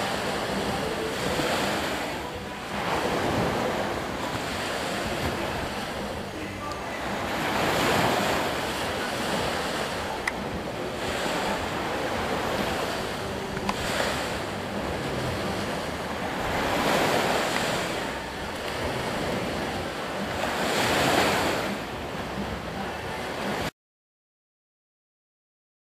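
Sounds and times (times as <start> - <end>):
waves breaking on a shore: 0.0 - 23.7.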